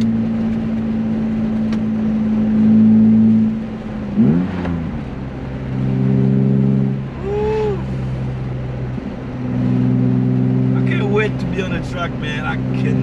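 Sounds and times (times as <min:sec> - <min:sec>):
car engine while driving: 0:00.0 - 0:13.0.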